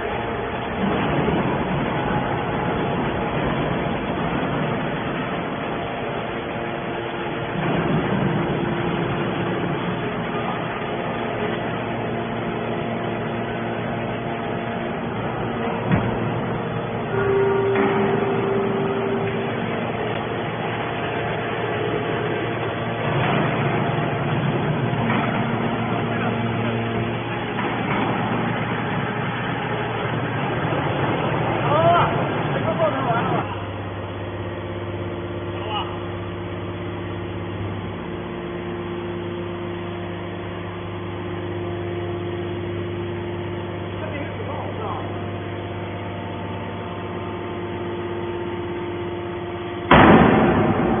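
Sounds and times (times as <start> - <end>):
hydraulic baling press running: 0.0 - 51.0.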